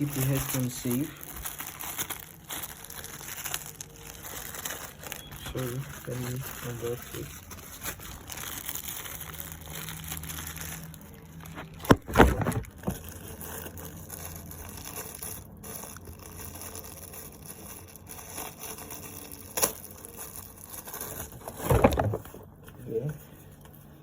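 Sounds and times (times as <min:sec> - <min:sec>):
packaging knocks and rustles: 0:00.0 - 0:22.5
low steady hum: 0:00.0 - 0:24.0.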